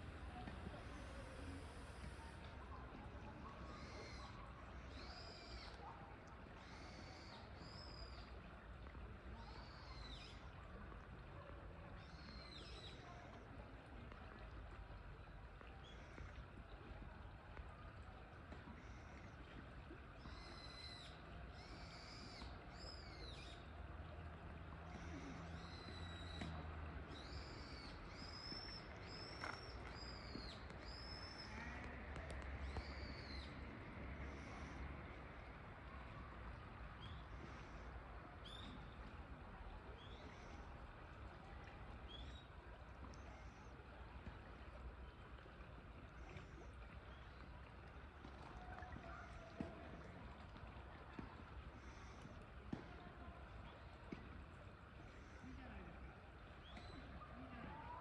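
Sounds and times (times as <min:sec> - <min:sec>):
water flowing in a channel: 0:00.0 - 0:58.0.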